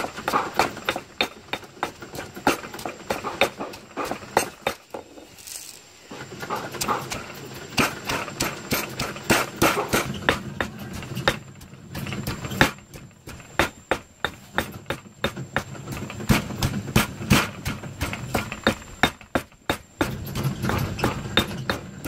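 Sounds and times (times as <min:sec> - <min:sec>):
stone pestle pounding in mortar: 0:00.0 - 0:04.9, 0:06.4 - 0:22.0.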